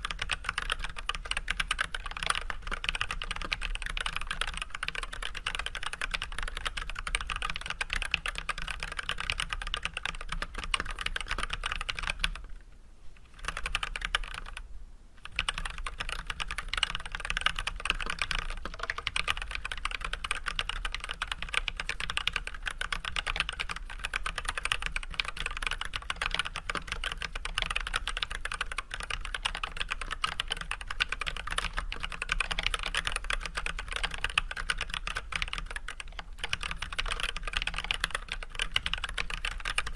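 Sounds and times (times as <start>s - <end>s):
mechanical keyboard typing: 0.0s - 12.5s, 13.4s - 14.6s, 15.2s - 39.9s.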